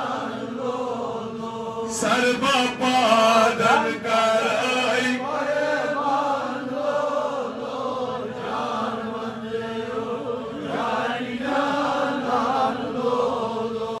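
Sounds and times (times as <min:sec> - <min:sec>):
voices chanting in unison: 0:00.0 - 0:14.0.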